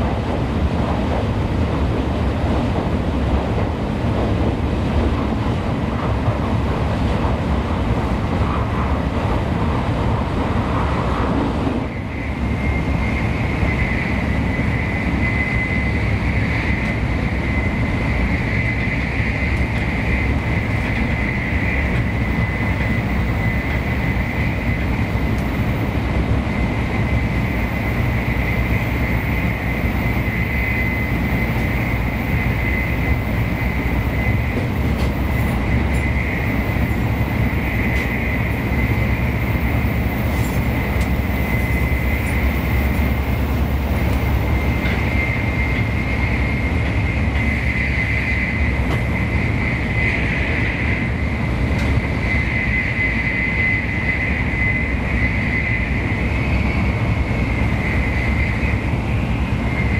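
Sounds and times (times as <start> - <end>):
steady high whine: 0.0 - 59.9
train interior rumble and rush: 0.0 - 59.9.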